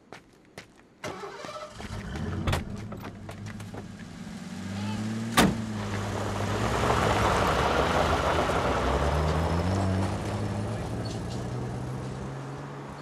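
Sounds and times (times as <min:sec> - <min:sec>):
truck engine revving: 0:01.1 - 0:13.0.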